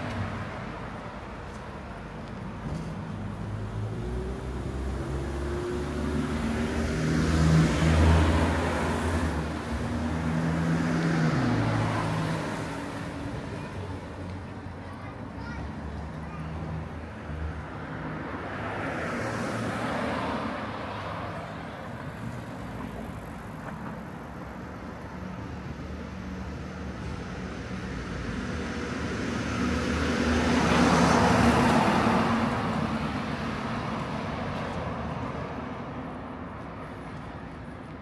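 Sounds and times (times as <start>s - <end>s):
cars passing: 0.0s - 38.0s
steady traffic rumble: 0.0s - 38.0s.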